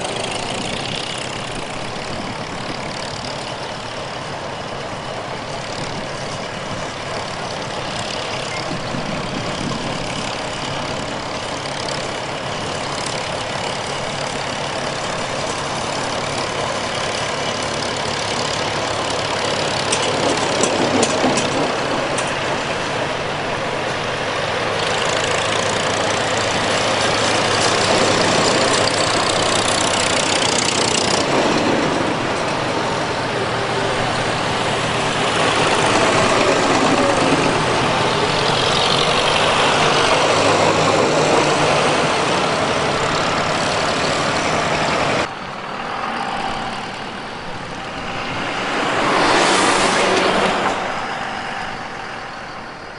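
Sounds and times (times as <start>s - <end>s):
tractor engines running: 0.0s - 52.9s.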